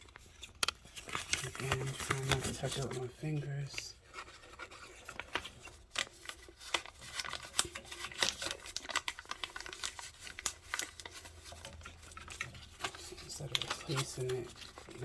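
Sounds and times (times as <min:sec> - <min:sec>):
paper bill crinkling on metal rod: 0:00.0 - 0:15.0.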